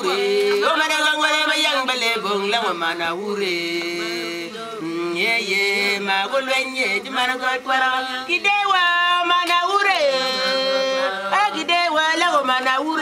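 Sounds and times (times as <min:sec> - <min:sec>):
voices singing a chant: 0:00.0 - 0:13.0.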